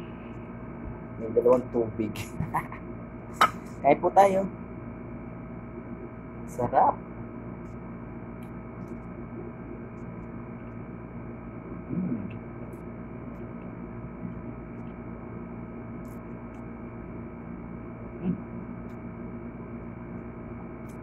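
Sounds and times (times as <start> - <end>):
electrical hum with tones: 0.0 - 21.0.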